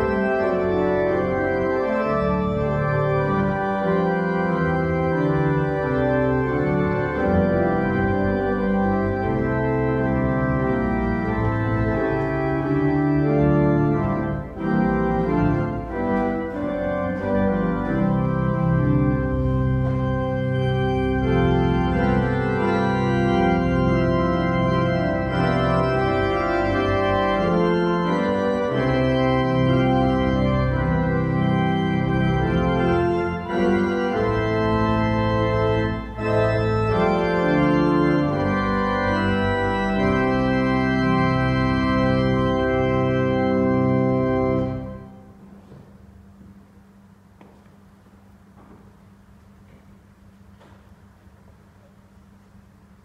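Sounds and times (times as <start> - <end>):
church organ playing hymn chords: 0.0 - 53.0.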